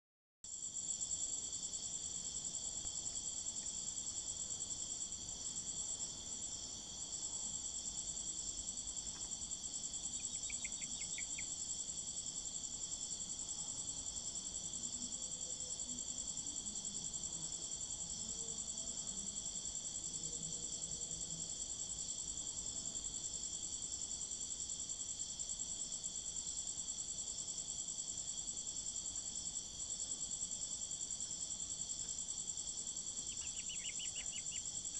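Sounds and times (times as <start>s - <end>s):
crickets chirring: 0.5s - 34.9s.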